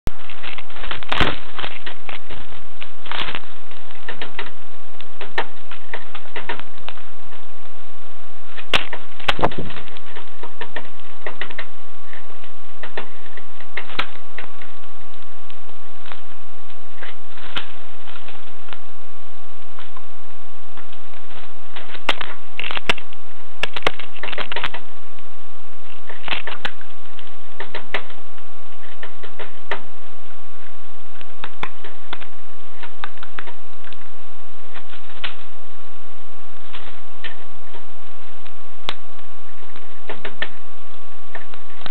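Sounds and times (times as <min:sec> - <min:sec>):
faint steady hum: 0:00.0 - 0:41.9
birds pecking at wooden feeder: 0:00.1 - 0:07.8, 0:08.5 - 0:19.0, 0:19.6 - 0:35.6, 0:36.6 - 0:41.9.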